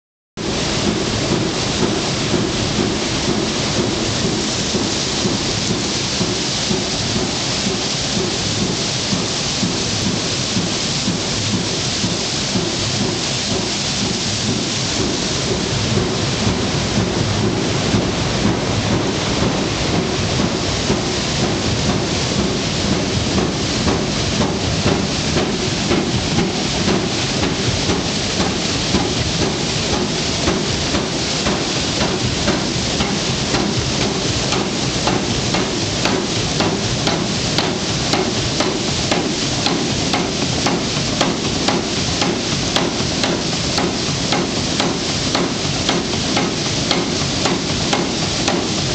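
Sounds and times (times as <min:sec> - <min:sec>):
water rushing onto water wheel: 0:00.4 - 0:48.9.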